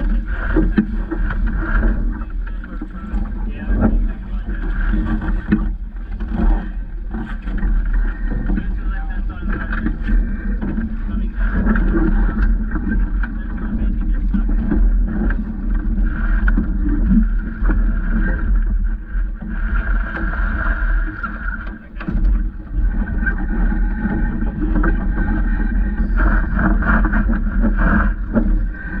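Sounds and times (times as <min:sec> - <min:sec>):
water moving along hull: 0:00.0 - 0:29.0
wind rumbling on microphone: 0:00.0 - 0:29.0.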